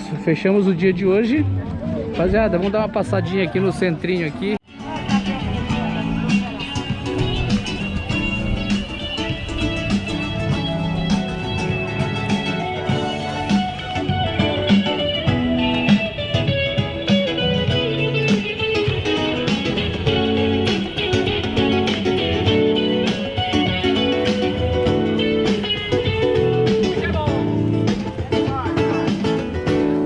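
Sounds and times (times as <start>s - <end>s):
guitar melody: 0.7s - 30.0s.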